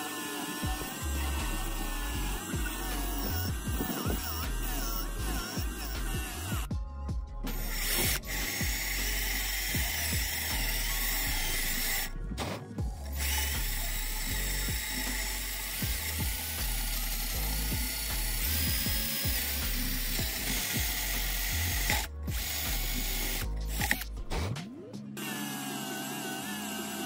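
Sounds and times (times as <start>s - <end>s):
drill wire brush scratching metal: 0.0s - 6.7s, 7.5s - 12.1s, 13.1s - 24.2s.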